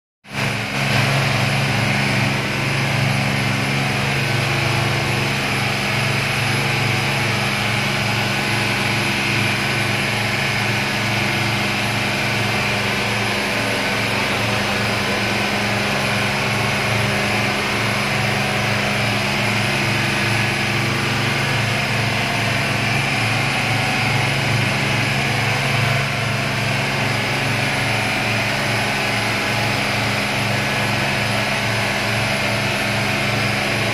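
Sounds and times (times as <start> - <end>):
motorboat engine running: 0.3 - 33.9.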